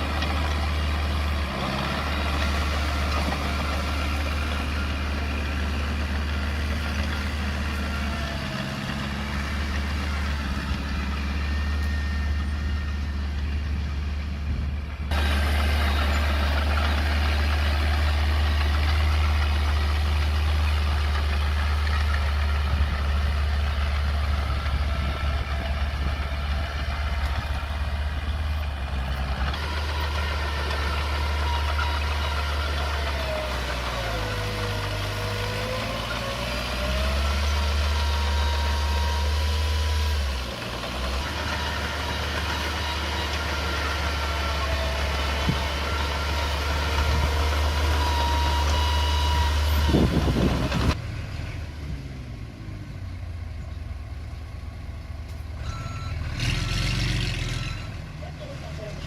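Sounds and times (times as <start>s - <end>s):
heavy machine engine droning: 0.0s - 59.0s.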